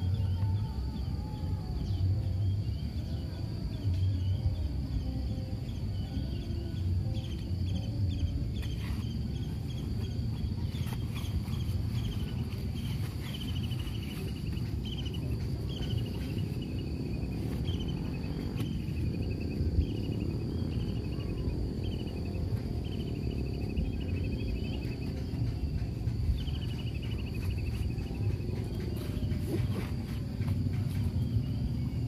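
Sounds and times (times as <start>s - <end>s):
insect chirping trills: 0.0s - 32.0s
insect drone: 0.0s - 32.0s.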